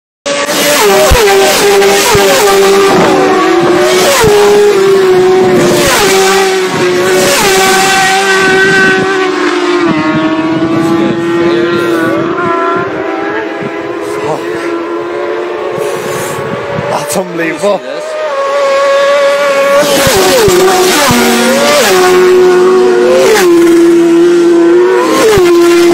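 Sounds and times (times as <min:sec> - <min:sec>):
racing motorcycles passing: 0:00.3 - 0:25.9
steady drone: 0:01.1 - 0:25.1.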